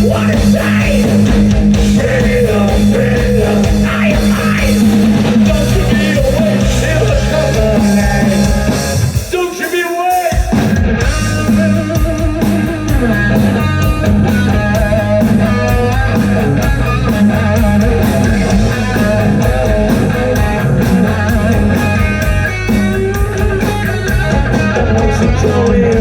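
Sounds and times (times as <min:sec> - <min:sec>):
electric guitar lead: 0:00.0 - 0:09.4, 0:10.5 - 0:26.0
bass guitar: 0:00.0 - 0:09.5, 0:10.3 - 0:26.0
distorted guitar: 0:00.0 - 0:26.0
drums and cymbals: 0:00.0 - 0:26.0.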